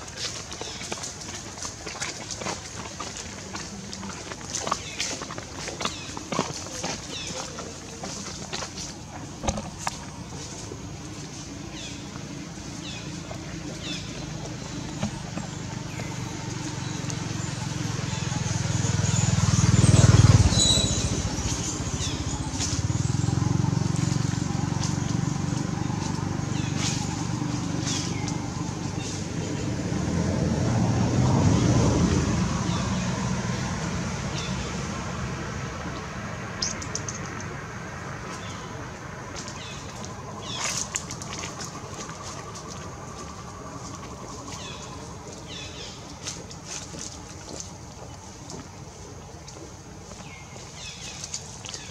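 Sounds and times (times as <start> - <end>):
engine running: 0.0 - 51.9
low outdoor rumble: 0.0 - 51.9.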